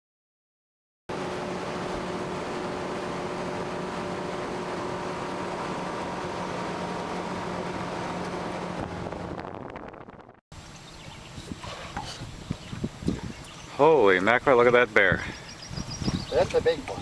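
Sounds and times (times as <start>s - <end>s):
motorboat engine humming: 1.1s - 17.0s.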